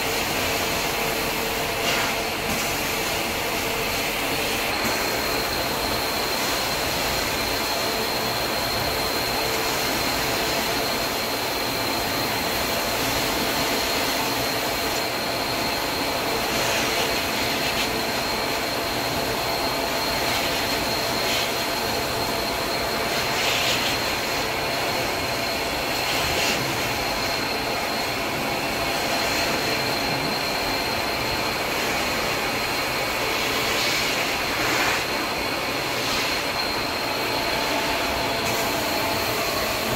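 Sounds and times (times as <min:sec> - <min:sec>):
carpet extraction machine running: 0:00.0 - 0:39.9.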